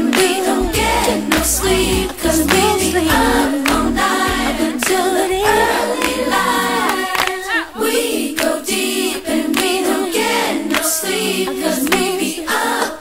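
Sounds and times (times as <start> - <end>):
song with sung vocals: 0.0 - 13.0.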